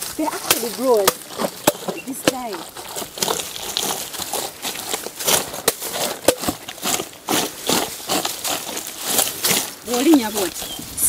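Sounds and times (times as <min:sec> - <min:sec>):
bare feet squashing bananas: 0:00.0 - 0:11.0.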